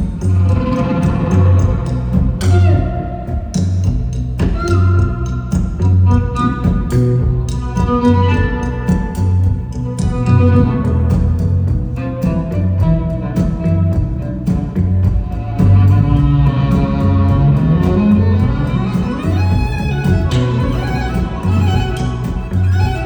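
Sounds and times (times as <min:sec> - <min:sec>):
bowed violin melody: 0:00.0 - 0:23.0
live band playing: 0:00.0 - 0:23.0.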